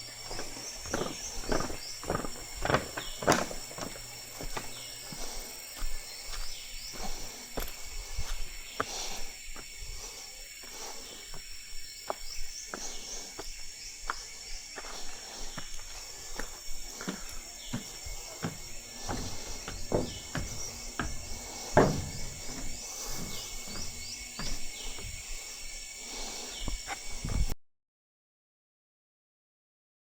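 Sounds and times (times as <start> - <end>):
footsteps: 0.0 - 27.6
insects buzzing: 0.0 - 27.6.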